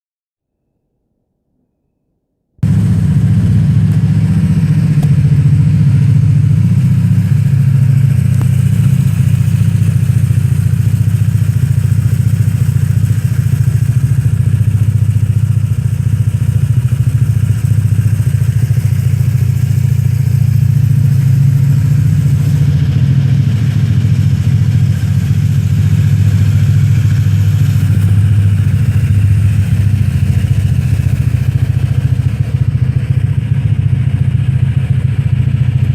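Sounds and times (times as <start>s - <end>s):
scooter engine idling: 2.6s - 35.9s.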